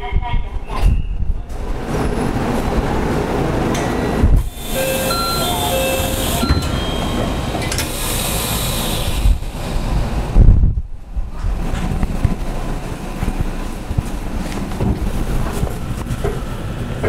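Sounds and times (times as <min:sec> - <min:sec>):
train running rumble: 0:01.5 - 0:17.0.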